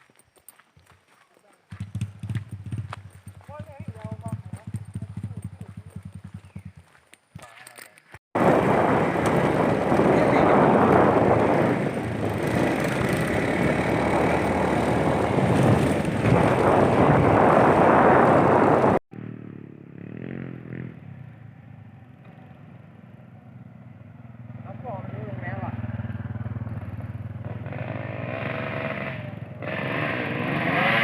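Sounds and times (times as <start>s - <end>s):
motorcycle engine running: 1.7s - 7.1s, 8.4s - 30.6s.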